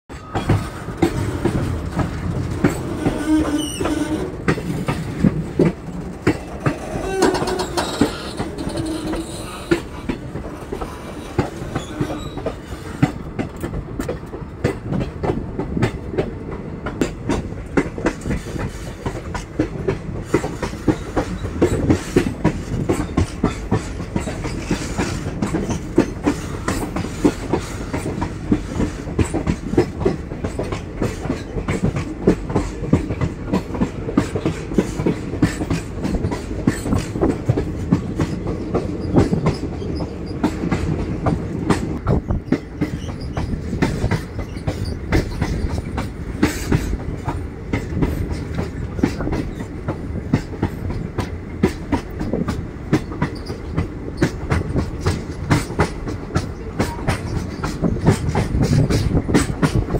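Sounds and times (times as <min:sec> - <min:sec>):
low train rumble: 0:00.1 - 0:59.9
train wheels clacking: 0:00.1 - 0:59.9.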